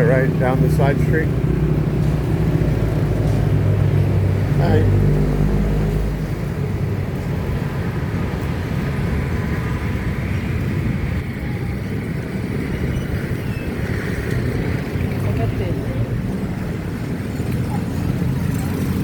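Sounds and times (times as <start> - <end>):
passing motor vehicles: 0.0 - 19.0.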